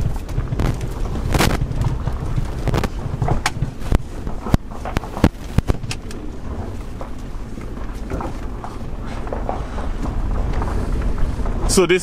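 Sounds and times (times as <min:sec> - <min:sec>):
sharp knocks and thumps: 0:00.0 - 0:11.8
car engine rumble: 0:00.0 - 0:12.0.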